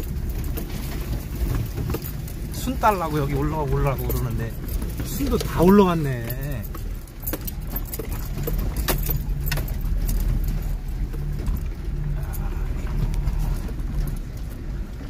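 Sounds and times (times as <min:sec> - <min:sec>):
car engine and tyres rumbling: 0:00.0 - 0:15.0
clicks and rattles: 0:00.0 - 0:15.0.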